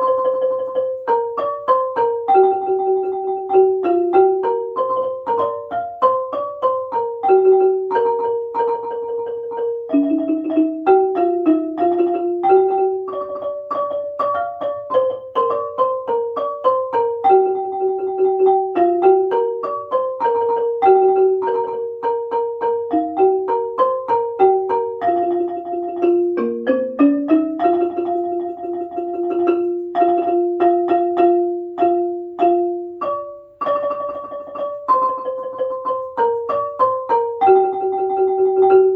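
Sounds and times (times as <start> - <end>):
xylophone playing fast melody: 0.0 - 38.9.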